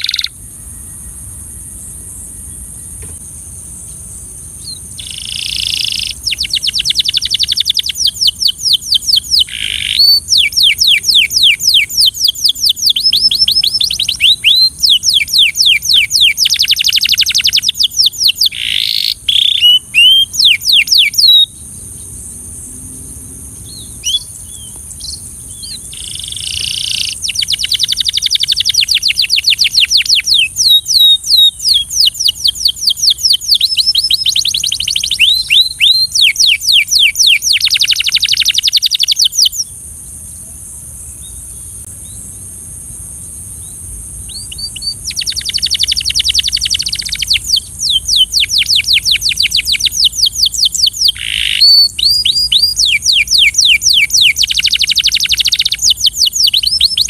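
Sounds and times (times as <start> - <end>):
canary singing trills: 0.0 - 3.2, 3.8 - 22.2, 23.0 - 39.8, 43.6 - 57.0.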